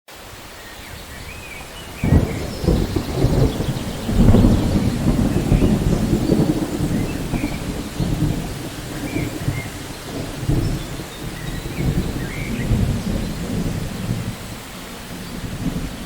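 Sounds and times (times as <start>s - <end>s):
steady rain: 0.1s - 16.0s
thunder clap and rumble: 1.0s - 16.0s.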